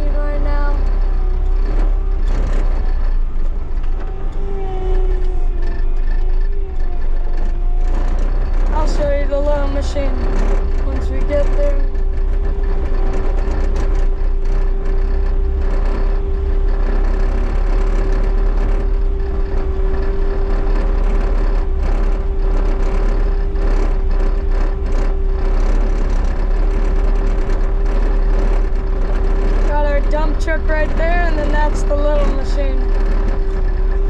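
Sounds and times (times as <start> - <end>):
diesel engine running: 0.0 - 34.0
machine rattling and clanking: 0.0 - 34.0.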